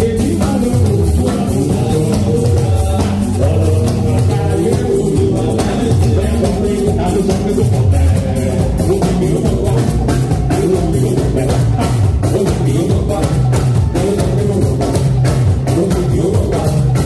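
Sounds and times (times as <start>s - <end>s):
bass line: 0.0s - 17.0s
drum kit beat: 0.0s - 17.0s
live band dance music: 0.0s - 17.0s
man singing into microphone: 0.0s - 17.0s.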